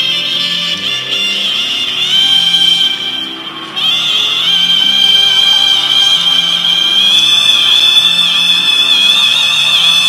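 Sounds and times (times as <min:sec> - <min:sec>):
instrumental music with bass line: 0:00.0 - 0:10.0.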